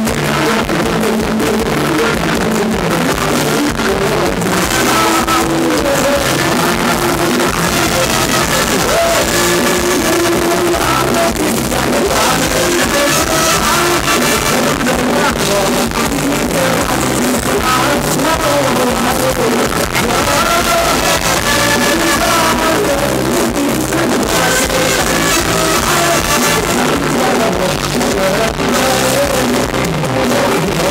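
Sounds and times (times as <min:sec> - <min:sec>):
band playing dance music: 0:00.0 - 0:30.9
men singing into microphones: 0:00.0 - 0:30.9.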